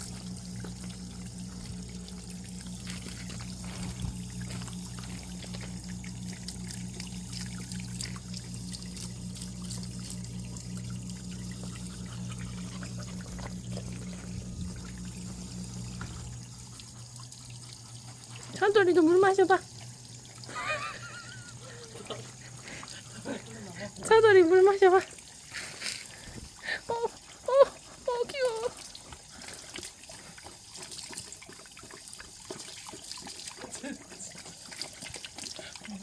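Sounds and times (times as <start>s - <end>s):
low steady hum: 0.0s - 32.0s
water running from a tap: 0.0s - 36.0s.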